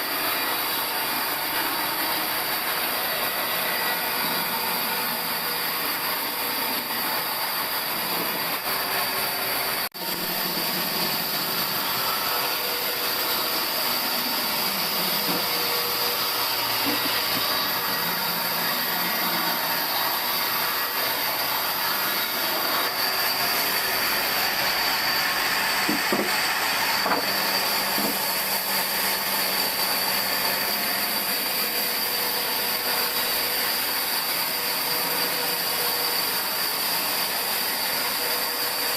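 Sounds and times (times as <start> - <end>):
sawmill machinery whining: 0.0 - 38.9.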